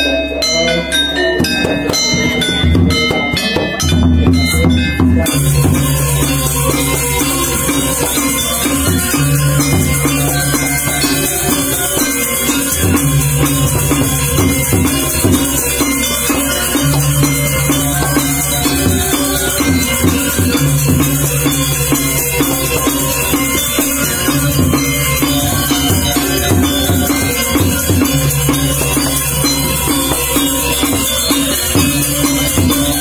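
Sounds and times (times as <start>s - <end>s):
metallophones ringing struck notes: 0.0s - 33.0s
fast high jingling: 1.3s - 33.0s.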